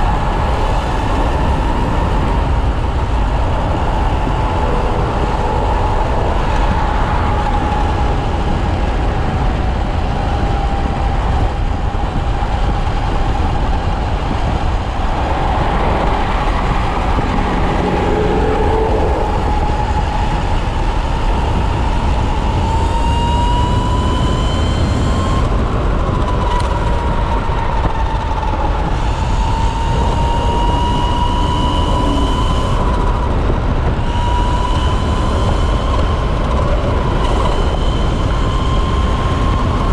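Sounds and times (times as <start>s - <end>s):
electric motor whine: 0.0s - 39.9s
wind rush on microphone: 0.0s - 39.9s.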